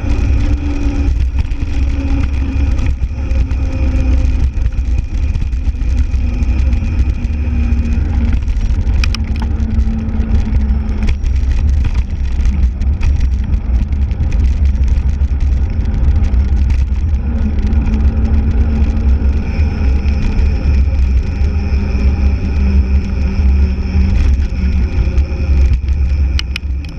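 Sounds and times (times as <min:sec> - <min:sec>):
bicycle tyres rolling on asphalt: 0:00.0 - 0:26.9
sharp rattling clicks: 0:00.0 - 0:26.9
wind buffeting microphone: 0:00.0 - 0:26.9.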